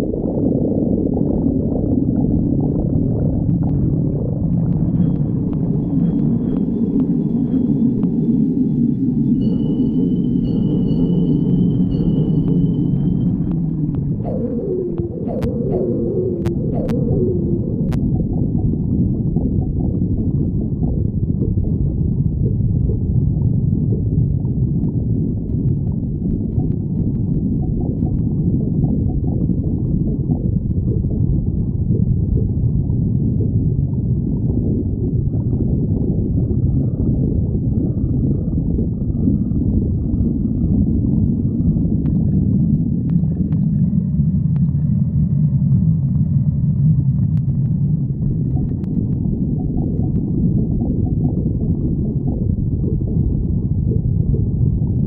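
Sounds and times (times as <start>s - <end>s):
stomach growling: 0.0s - 8.6s, 11.9s - 55.0s.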